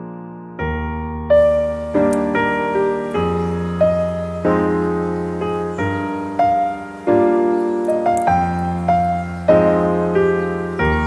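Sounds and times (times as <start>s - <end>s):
calm piano notes and chords: 0.0s - 11.0s.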